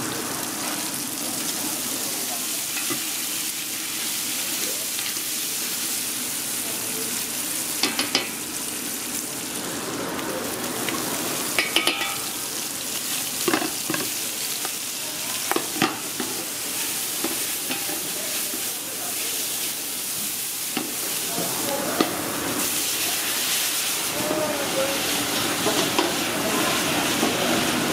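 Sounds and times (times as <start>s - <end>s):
meat and onions sizzling: 0.0s - 27.9s.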